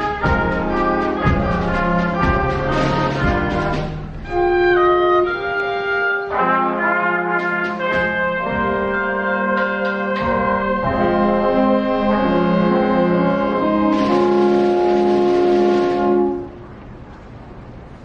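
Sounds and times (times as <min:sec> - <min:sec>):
school band playing held chords: 0:00.0 - 0:16.8.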